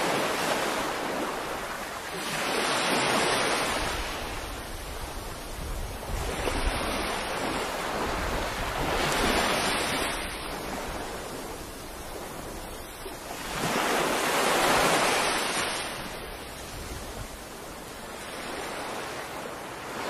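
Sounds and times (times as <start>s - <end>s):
surf washing up a beach: 0.0s - 20.0s.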